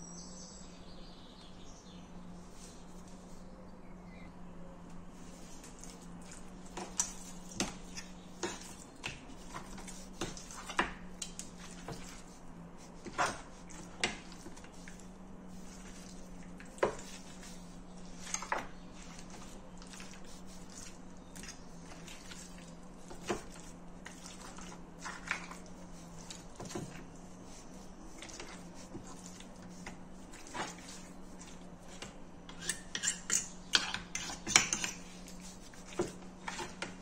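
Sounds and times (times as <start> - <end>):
steady low hum: 0.0 - 37.0
wet meat turning: 5.1 - 37.0.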